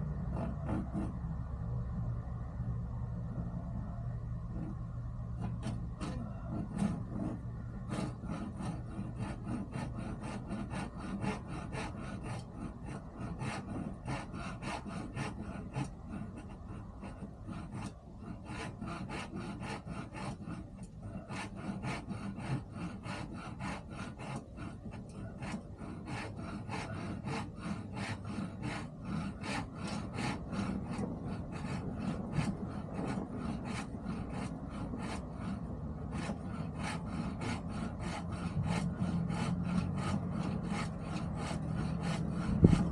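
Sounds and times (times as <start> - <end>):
hand saw cutting wood: 5.4 - 42.9.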